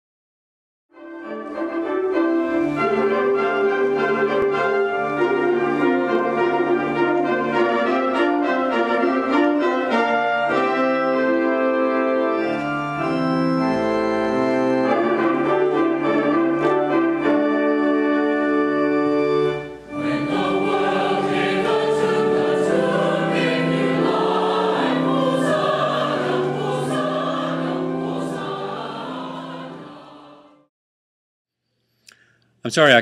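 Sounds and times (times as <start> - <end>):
organ playing chords: 1.0 - 30.7.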